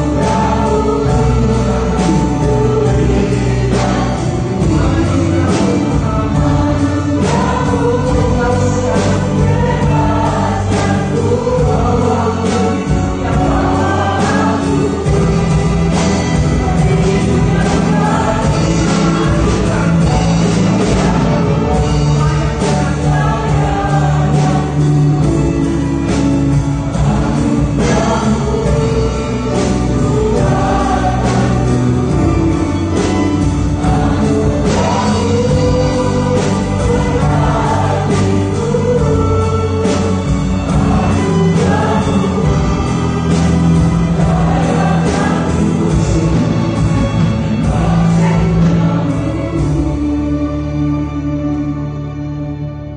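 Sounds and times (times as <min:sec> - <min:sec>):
group singing worship song: 0:00.0 - 0:51.4.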